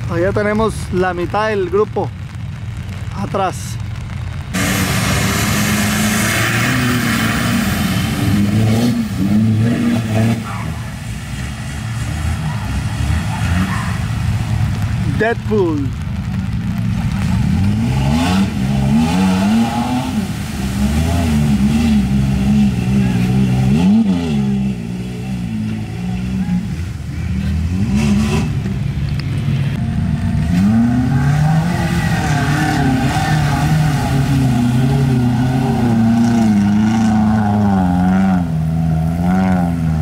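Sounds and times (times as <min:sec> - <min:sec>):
engine revving: 0:04.6 - 0:15.6, 0:16.9 - 0:40.0.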